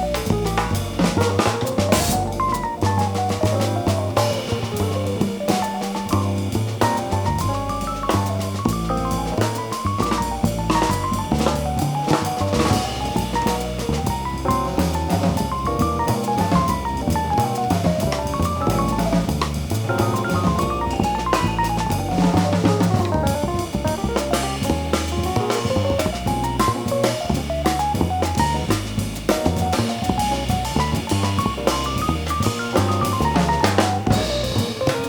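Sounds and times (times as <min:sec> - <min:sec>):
bass line: 0:00.0 - 0:35.0
drum kit: 0:00.0 - 0:35.0
jazz band playing: 0:00.0 - 0:35.0.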